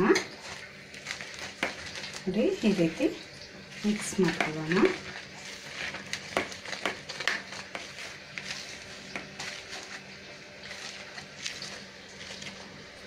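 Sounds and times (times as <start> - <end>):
fingers scratching through flour: 0.1 - 13.0.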